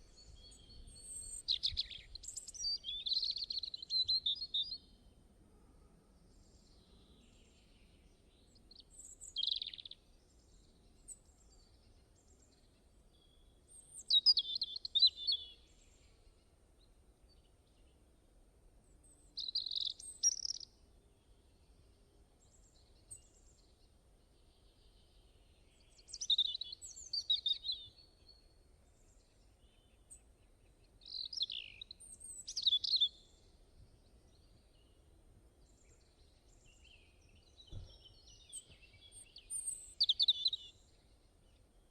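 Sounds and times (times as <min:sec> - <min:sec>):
birds chirping and twittering: 0:00.0 - 0:04.9, 0:06.3 - 0:16.5, 0:19.0 - 0:41.9.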